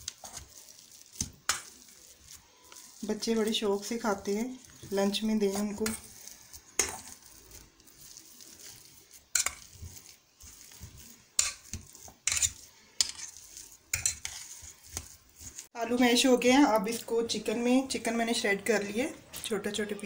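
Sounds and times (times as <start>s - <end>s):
soft mashing of potatoes: 0.0s - 20.0s.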